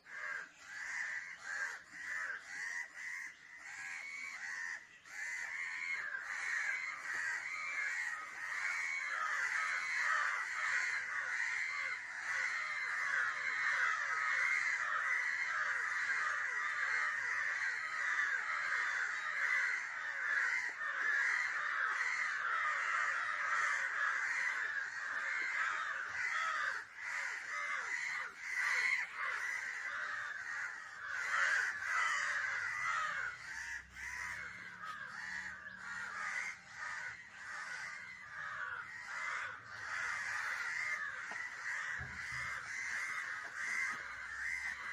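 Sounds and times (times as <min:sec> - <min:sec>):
crows cawing: 0:00.0 - 0:44.9.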